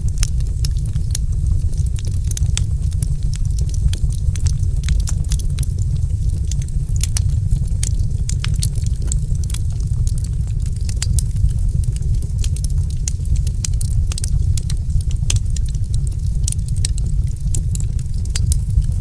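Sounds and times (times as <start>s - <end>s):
fire snaps and pops: 0.0s - 19.0s
wood fire rumbling: 0.0s - 19.0s.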